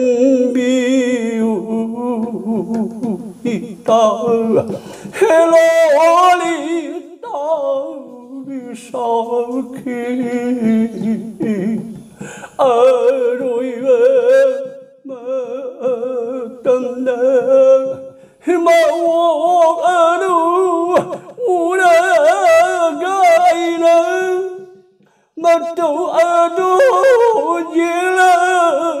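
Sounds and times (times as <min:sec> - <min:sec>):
elderly person singing unaccompanied: 0:00.0 - 0:29.0.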